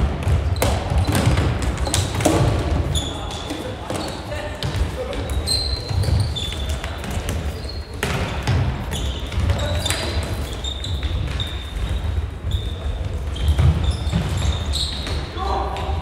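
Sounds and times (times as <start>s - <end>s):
shoes squeaking on wooden floor: 0.2s - 16.0s.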